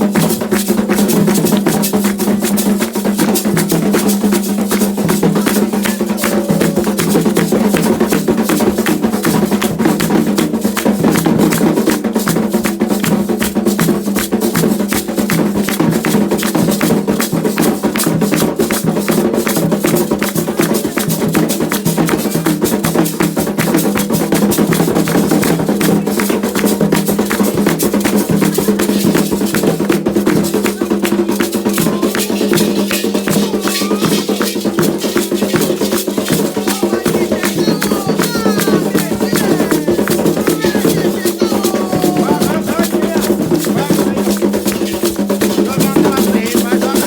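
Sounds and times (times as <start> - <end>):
hand drums: 0.0 - 47.0
shaker: 0.0 - 47.0.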